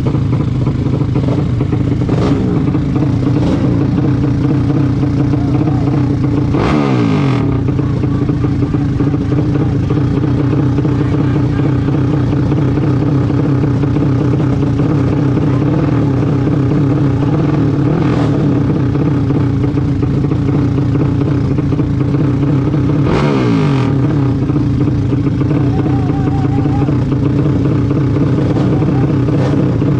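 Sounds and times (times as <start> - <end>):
vehicle engine running loudly: 0.0 - 29.9.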